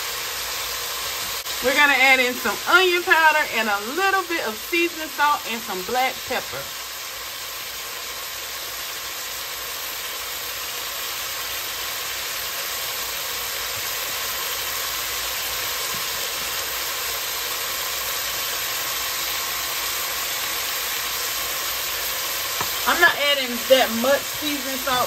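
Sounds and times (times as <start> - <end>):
meat and vegetables sizzling: 0.0 - 25.0.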